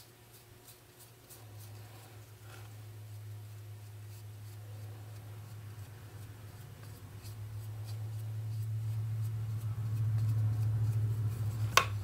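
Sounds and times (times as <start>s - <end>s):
brush scratching on wood: 0.0s - 11.9s
steady low hum: 0.0s - 12.0s.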